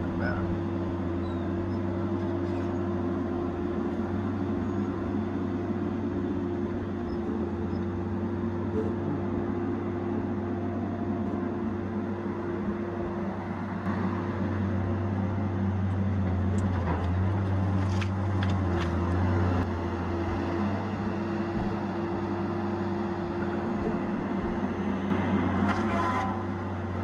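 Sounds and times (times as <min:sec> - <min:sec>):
diesel engine running steadily: 0:00.0 - 0:27.0.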